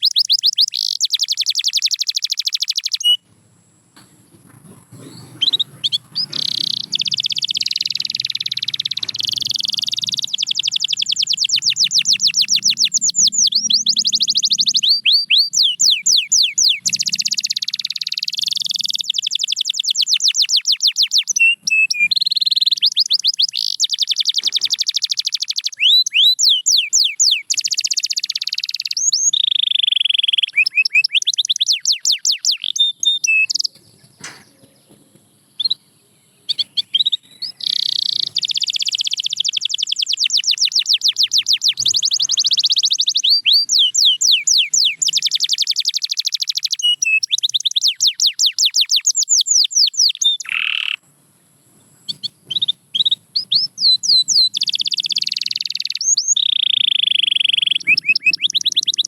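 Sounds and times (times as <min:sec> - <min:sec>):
canary singing: 0:00.0 - 0:51.2, 0:51.8 - 0:59.0.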